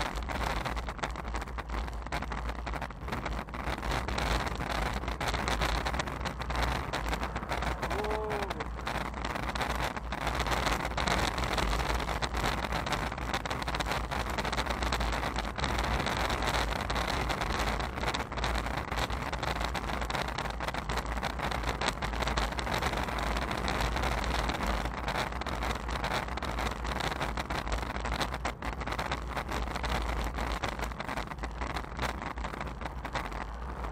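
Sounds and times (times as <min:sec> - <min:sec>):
bicycle road noise: 0:00.0 - 0:33.9
deep rumble: 0:00.0 - 0:33.9
rushing wind: 0:00.0 - 0:33.9.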